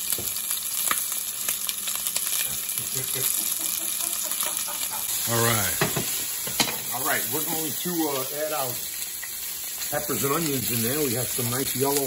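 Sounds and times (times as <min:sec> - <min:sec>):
sausages sizzling in a pan: 0:00.0 - 0:12.0.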